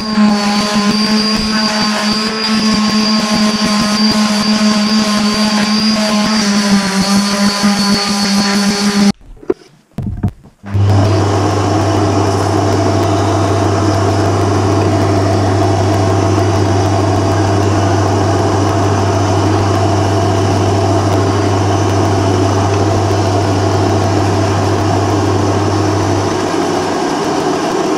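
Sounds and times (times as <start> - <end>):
vacuum cleaner running: 0.0 - 9.2, 10.7 - 27.9
low hum: 0.0 - 27.9.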